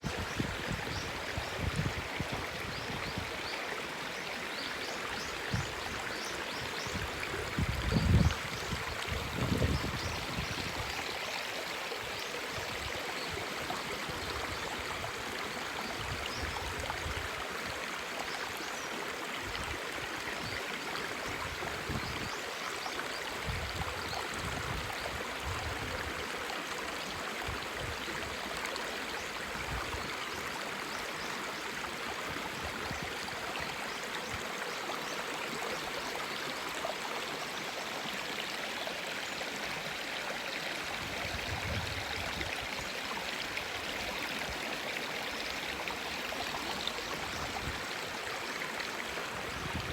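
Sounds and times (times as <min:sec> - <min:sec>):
river water babbling: 0:00.0 - 0:49.9.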